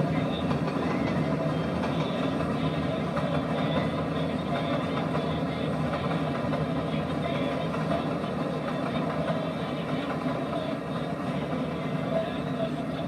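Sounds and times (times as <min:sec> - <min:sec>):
passenger train rumbling by: 0:00.0 - 0:13.0.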